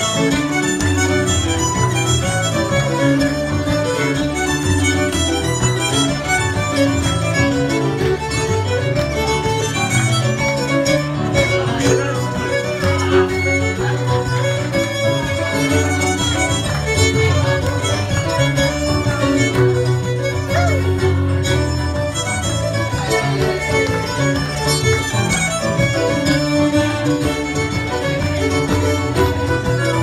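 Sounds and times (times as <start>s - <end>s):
fiddles playing: 0.0s - 30.0s
keyboard accompaniment: 0.0s - 30.0s.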